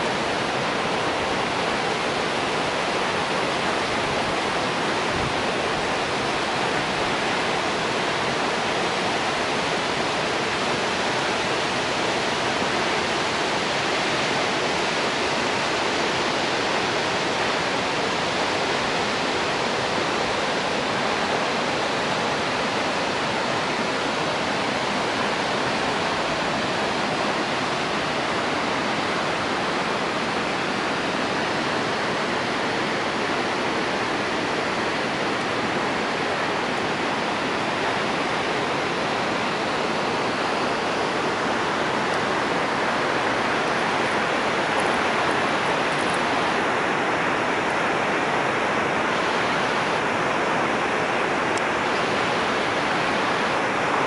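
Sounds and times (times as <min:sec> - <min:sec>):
waterfall rushing water: 0:00.0 - 0:54.0.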